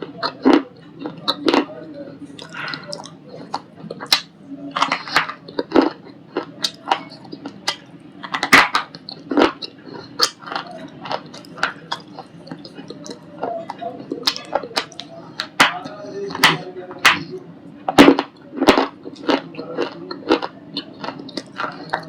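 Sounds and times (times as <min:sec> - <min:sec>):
person chewing stone crunchily: 0:00.0 - 0:17.3, 0:17.9 - 0:22.0.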